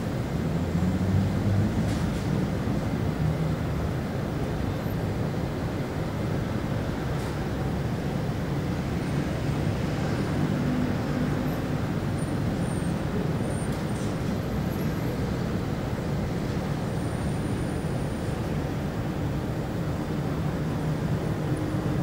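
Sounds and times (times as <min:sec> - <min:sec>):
low rumble of road traffic: 0:00.0 - 0:22.0.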